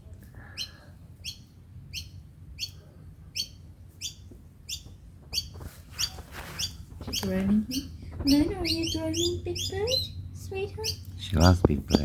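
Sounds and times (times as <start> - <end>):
small bird chirping: 0.5 - 12.0.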